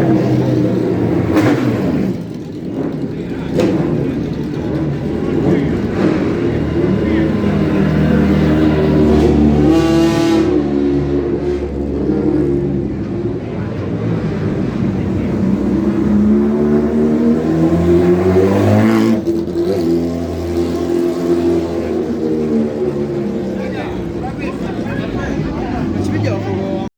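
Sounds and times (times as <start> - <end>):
sports car engines revving: 0.0 - 26.9.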